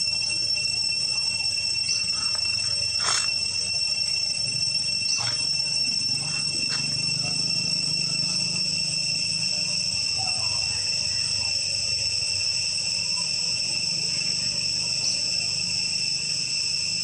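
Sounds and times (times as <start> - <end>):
insects droning in trees: 0.0 - 17.0.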